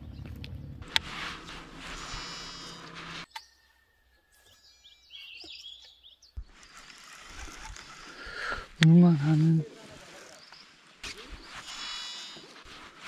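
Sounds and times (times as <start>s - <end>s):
small birds chirping: 1.9s - 12.9s.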